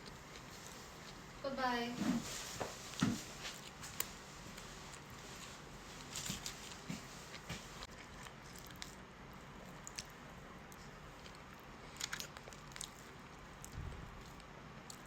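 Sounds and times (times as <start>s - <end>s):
person chewing food: 0.0s - 1.3s, 2.6s - 15.0s.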